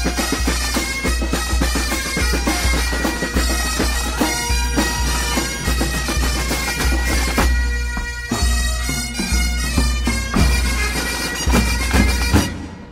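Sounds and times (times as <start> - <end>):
bagpipes over drones: 0.0 - 12.9
drum strokes: 0.0 - 12.9.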